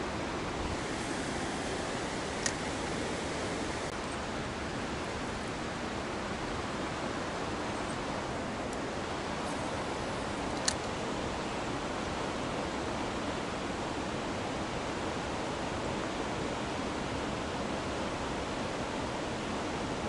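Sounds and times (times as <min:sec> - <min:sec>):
river water rushing over riffle: 0:00.0 - 0:20.0.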